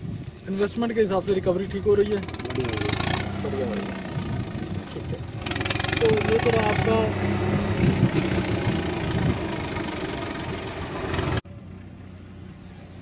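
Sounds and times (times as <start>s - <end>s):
engine running: 1.2s - 13.0s.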